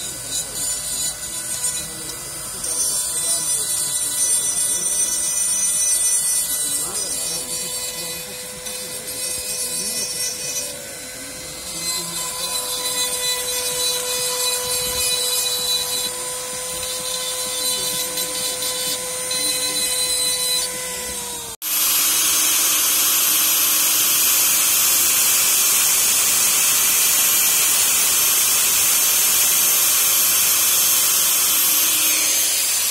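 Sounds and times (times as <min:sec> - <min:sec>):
angle grinder cutting metal: 0:00.0 - 0:32.9
rotary tool whining: 0:00.0 - 0:32.9.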